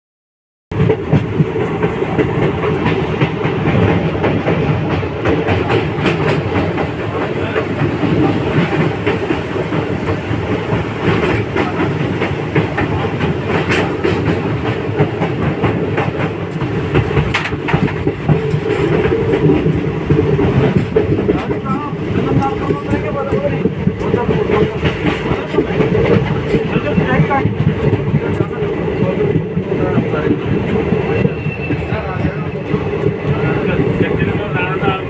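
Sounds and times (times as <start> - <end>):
train wheels rumbling on track: 0.7 - 35.0.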